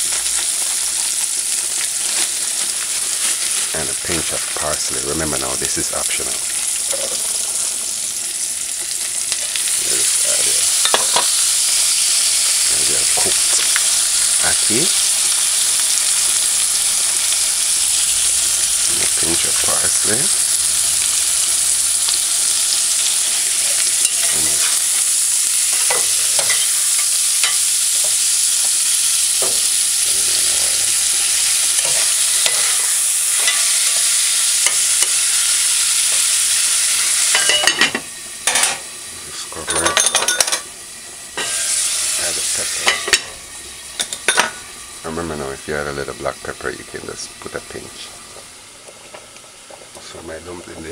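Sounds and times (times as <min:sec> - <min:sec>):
food sizzling in a pot: 0:00.0 - 0:50.9.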